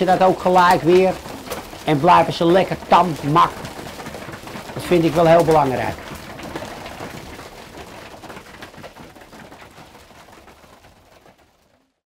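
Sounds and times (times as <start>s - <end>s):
pigeons pecking and shuffling: 0.0s - 12.0s.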